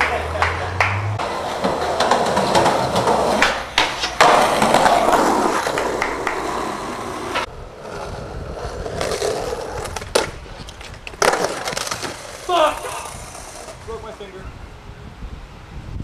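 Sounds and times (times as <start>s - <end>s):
skateboard clacking on ground: 0.0s - 13.9s
skateboard wheels rolling on concrete: 0.0s - 16.0s.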